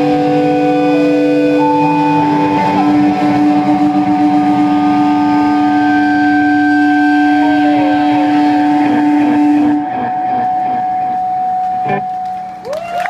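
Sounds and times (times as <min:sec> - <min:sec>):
electric guitar feedback tones: 0:00.0 - 0:13.0.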